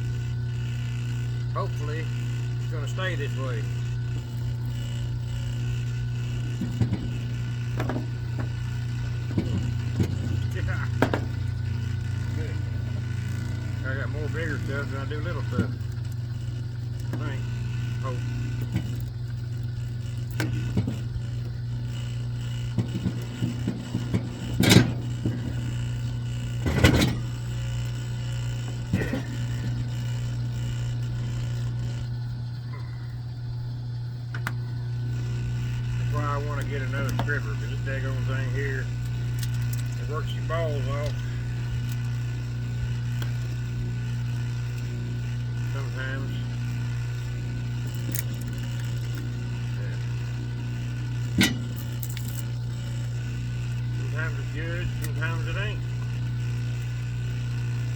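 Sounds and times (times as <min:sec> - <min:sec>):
machine humming: 0:00.0 - 0:57.9.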